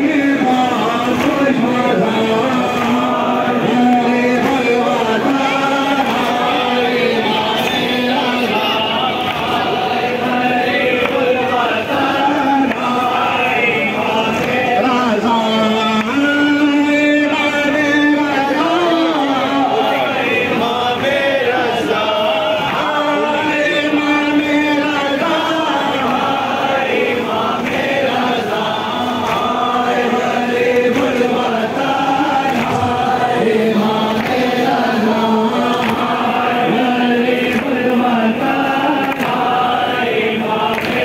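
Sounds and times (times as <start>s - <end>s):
crowd of men chanting: 0.0s - 41.0s.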